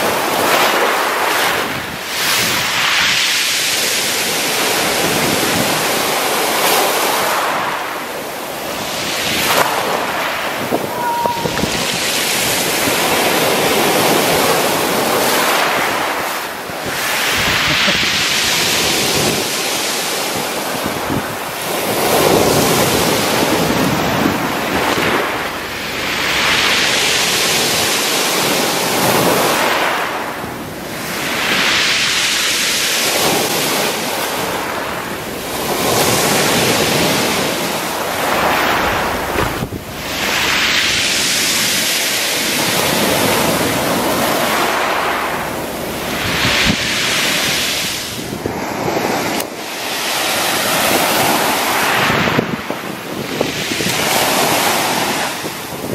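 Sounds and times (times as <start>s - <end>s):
surf breaking on beach: 0.0s - 55.9s.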